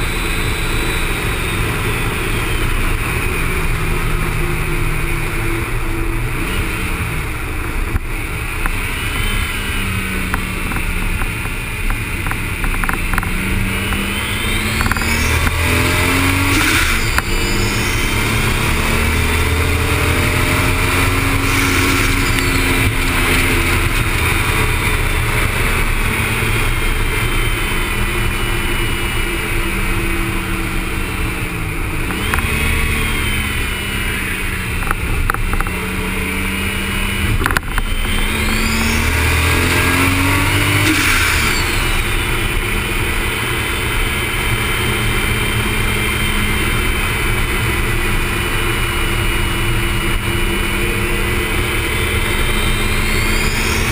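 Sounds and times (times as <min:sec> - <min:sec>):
car engine running hard: 0:00.0 - 0:53.9
wind and road noise: 0:00.0 - 0:53.9.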